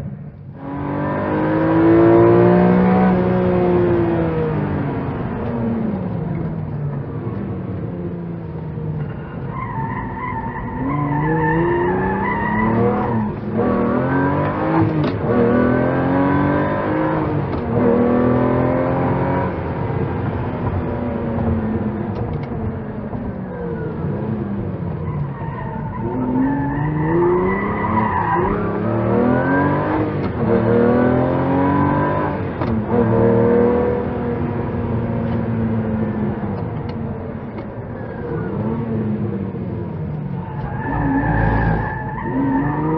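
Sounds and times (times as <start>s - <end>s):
car engine revving and accelerating: 0.5s - 42.9s.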